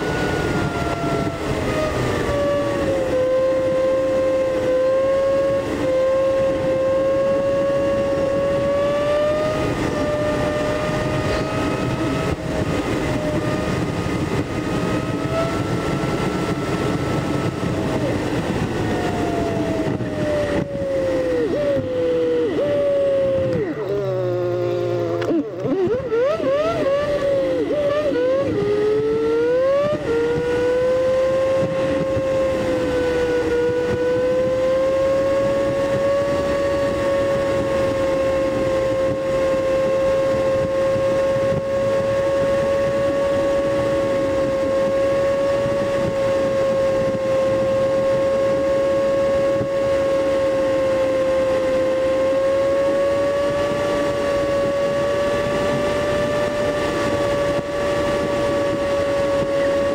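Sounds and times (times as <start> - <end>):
high engine drone: 0.0 - 59.9.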